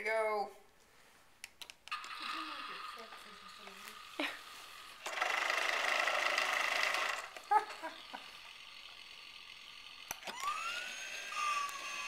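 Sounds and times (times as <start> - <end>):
toy wheels and gears rattling: 1.9 - 12.0.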